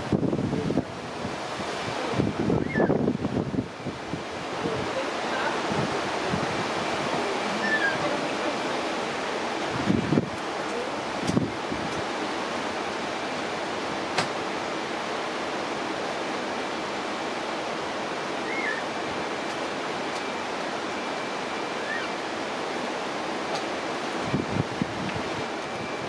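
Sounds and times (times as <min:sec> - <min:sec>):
running water rushing: 0:00.0 - 0:26.0.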